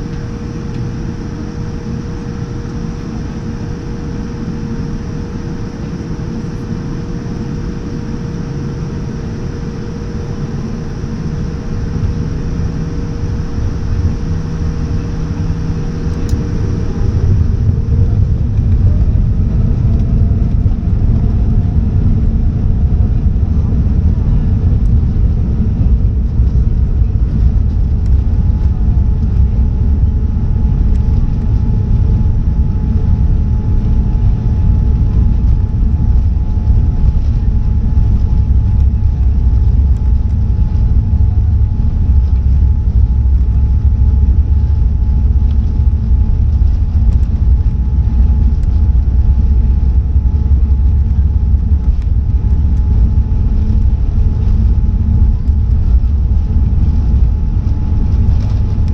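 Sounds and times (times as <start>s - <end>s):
jet engines rumbling and whining: 0.0s - 58.9s.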